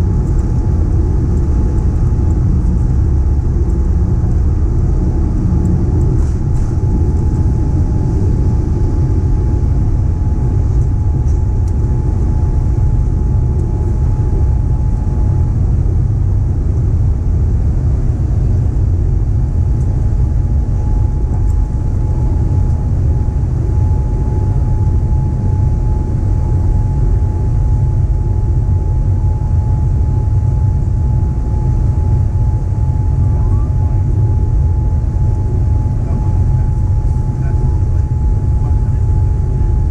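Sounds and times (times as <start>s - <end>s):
jet engine cabin rumble: 0.0s - 39.9s
thin constant whine: 0.0s - 39.9s.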